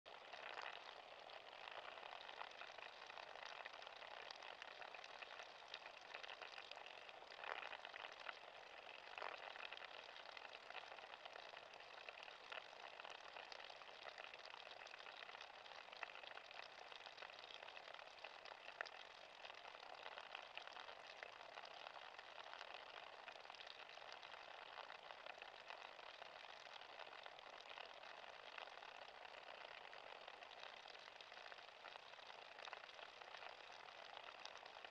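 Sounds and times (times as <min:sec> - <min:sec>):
meltwater trickling and dripping: 0:00.1 - 0:34.9.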